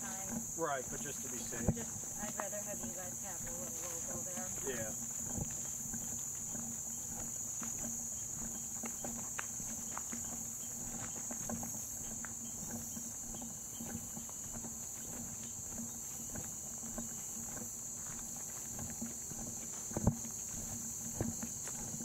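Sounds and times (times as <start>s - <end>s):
footsteps on dirt trail: 0.0s - 22.0s
insects chirping: 0.0s - 22.0s.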